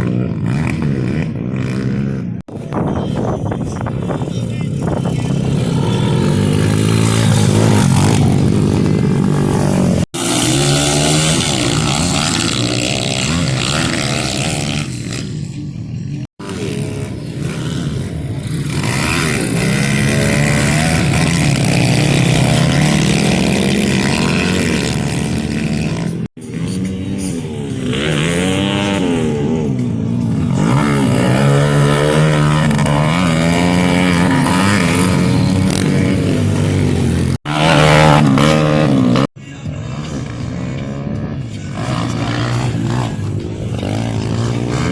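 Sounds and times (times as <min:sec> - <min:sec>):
pit bike engines revving: 0:00.0 - 0:44.9.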